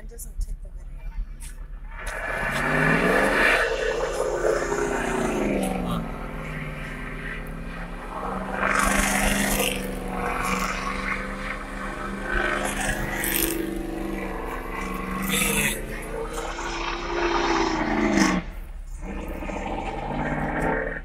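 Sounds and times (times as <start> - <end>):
car engine revving high: 2.0 - 21.0.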